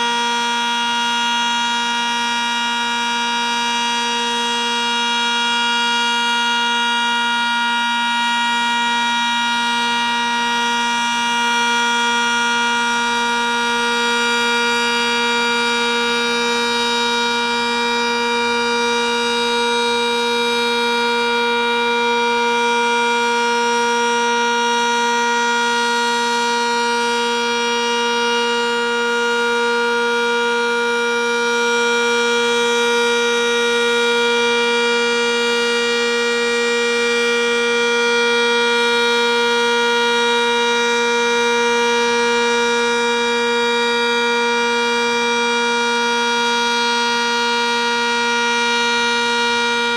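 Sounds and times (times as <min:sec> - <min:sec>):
warning siren steady tone: 0:00.0 - 0:49.9.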